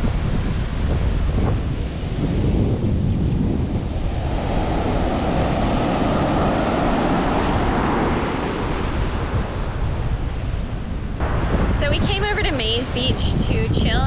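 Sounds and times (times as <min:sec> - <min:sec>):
ocean waves breaking: 0:00.0 - 0:13.5
wind buffeting microphone: 0:00.0 - 0:14.0.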